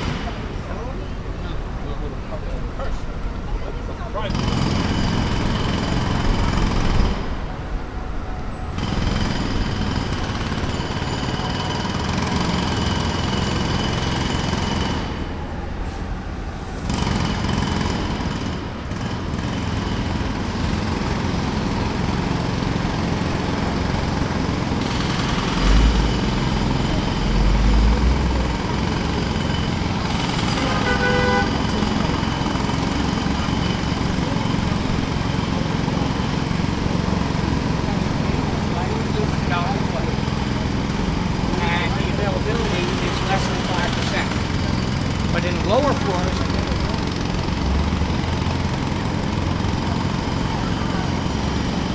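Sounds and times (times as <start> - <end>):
jackhammer hammering: 4.2 - 7.6, 8.8 - 15.6, 16.8 - 51.9.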